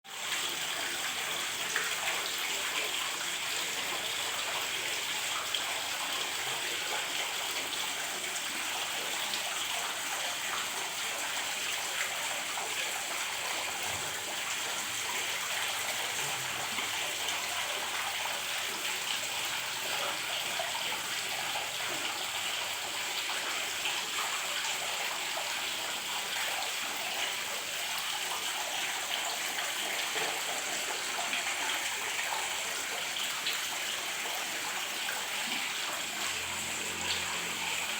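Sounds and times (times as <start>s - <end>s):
small waterfall splashing: 0.1s - 37.9s.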